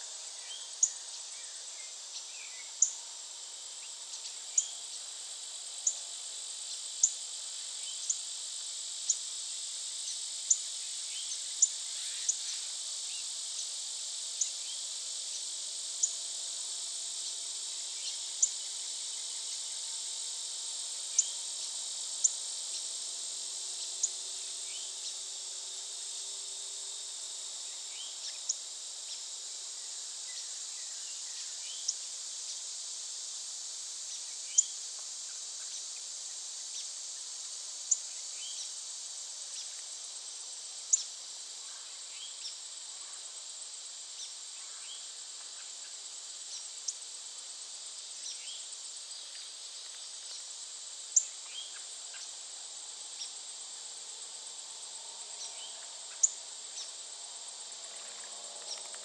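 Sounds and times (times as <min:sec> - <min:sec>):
high insect chorus: 0:00.0 - 0:59.0.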